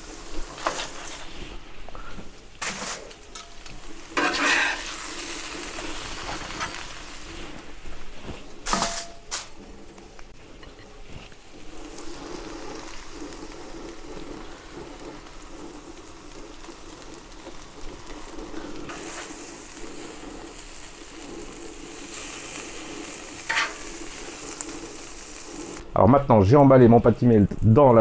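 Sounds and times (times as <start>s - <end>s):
food sizzling on a griddle: 0.0s - 9.6s, 10.7s - 25.8s.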